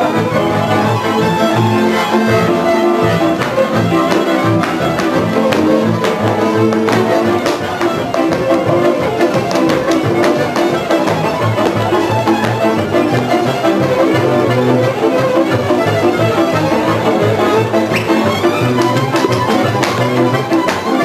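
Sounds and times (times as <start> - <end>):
folk band music: 0.0 - 21.0
low string accompaniment: 0.0 - 21.0
violin melody: 0.0 - 21.0
sharp knocks: 2.7 - 21.0.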